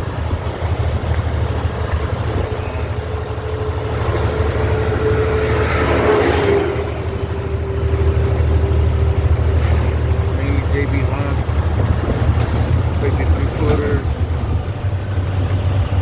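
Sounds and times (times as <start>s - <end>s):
heavy truck engine rumble: 0.0s - 16.0s
steady whine: 0.0s - 16.0s.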